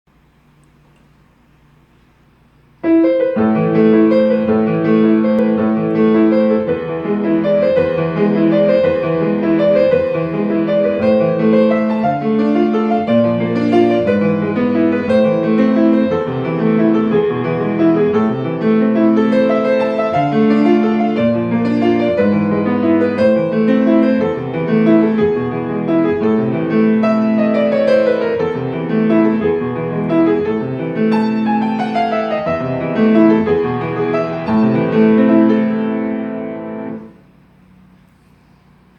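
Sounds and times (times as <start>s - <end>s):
solo piano playing fast piece: 2.8s - 37.2s.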